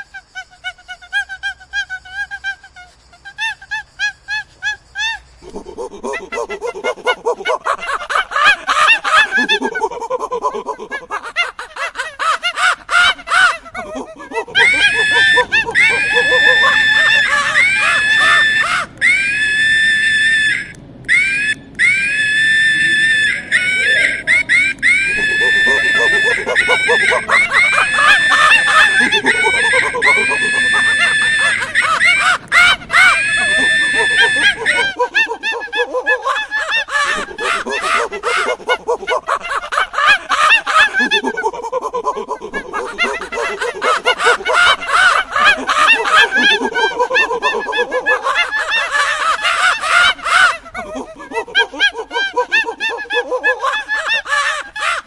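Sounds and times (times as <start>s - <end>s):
monkey screaming: 0.0s - 55.0s.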